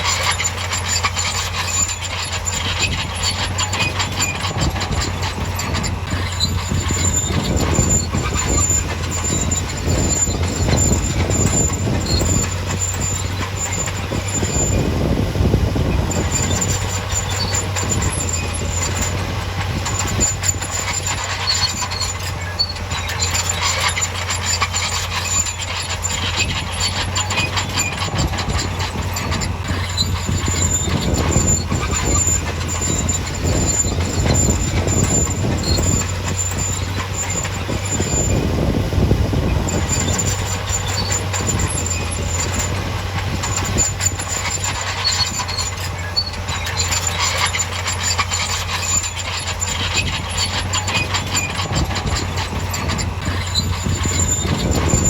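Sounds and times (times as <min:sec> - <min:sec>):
diesel engine drone: 0:00.0 - 0:55.0
high track squeal: 0:00.0 - 0:55.0
steel tracks clanking: 0:00.0 - 0:55.0.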